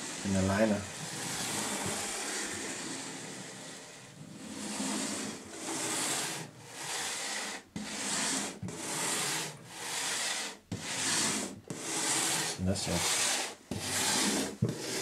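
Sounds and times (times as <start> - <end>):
wooden planchette scraping on board: 0.0 - 15.0.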